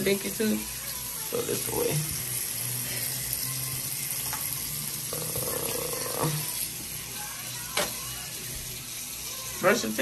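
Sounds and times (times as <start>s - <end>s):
faucet running into basin: 0.0s - 10.0s.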